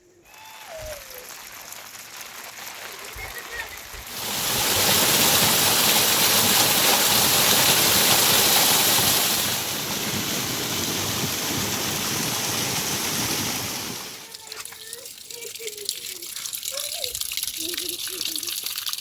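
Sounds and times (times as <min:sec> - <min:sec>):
rushing water: 0:02.7 - 0:19.0.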